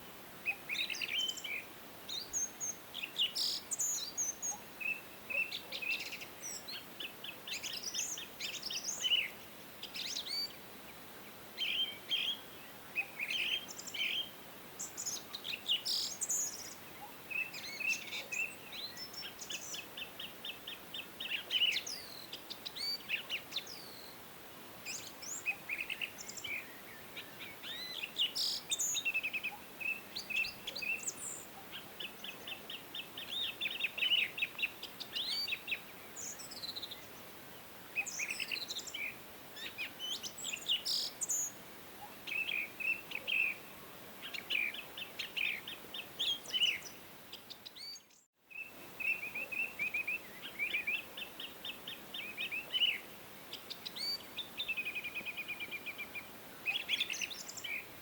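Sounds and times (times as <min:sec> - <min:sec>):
faint background hiss: 0:00.0 - 0:58.0
songbirds singing and chirping: 0:00.0 - 0:58.0.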